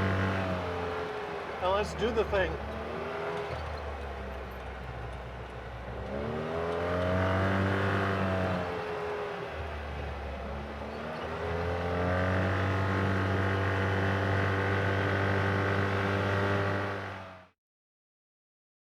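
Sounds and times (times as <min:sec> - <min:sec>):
off-road vehicle engine running: 0:00.0 - 0:17.2.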